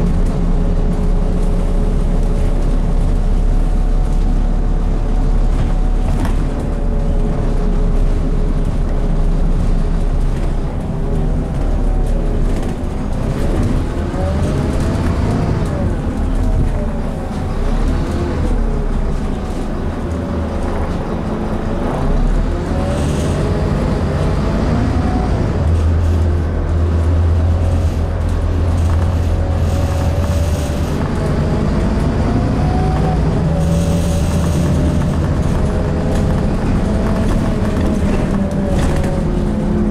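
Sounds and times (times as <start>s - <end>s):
bus engine rumble: 0.0s - 39.9s
engine whine: 0.0s - 39.9s.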